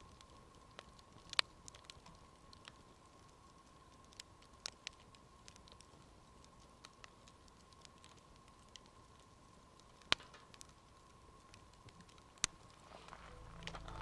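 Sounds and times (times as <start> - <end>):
campfire crackling: 0.0 - 14.0
sharp pops of fire: 0.1 - 13.8.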